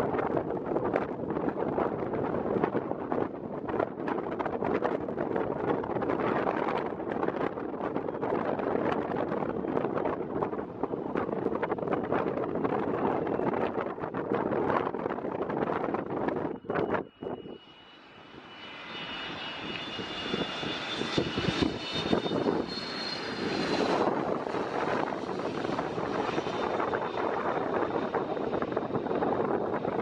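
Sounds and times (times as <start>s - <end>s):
wind rumbling on microphone: 0.0s - 30.0s
jet engines whining: 5.2s - 30.0s.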